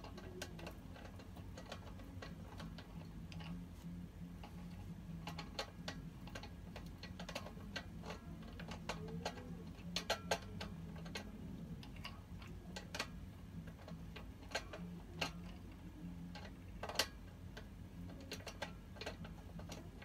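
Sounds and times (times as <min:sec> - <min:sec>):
bolts clicking on steel frame: 0:00.0 - 0:03.7, 0:04.4 - 0:20.0
low steady hum: 0:00.0 - 0:20.0.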